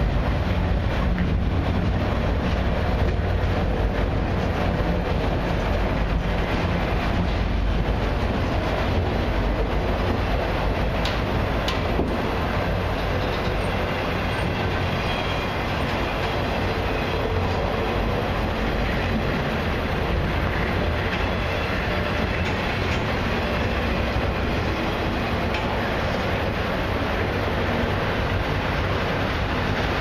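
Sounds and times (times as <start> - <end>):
steel wheels rumbling on rail: 0.0 - 30.0.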